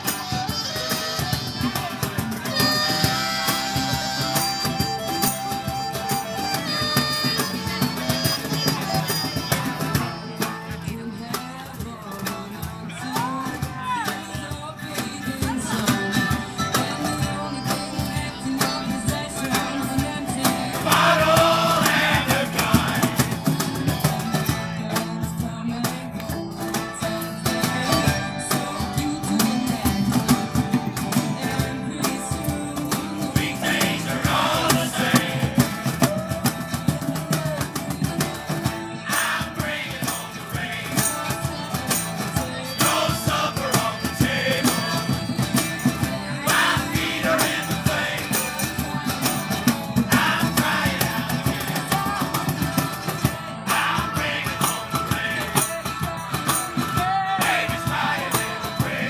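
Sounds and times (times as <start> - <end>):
mandolin: 0.0 - 57.6
banjo: 0.0 - 59.0
cajon and hand drum beat: 0.0 - 59.0
strummed guitars: 0.0 - 59.0
people singing: 6.4 - 24.0, 27.3 - 59.0.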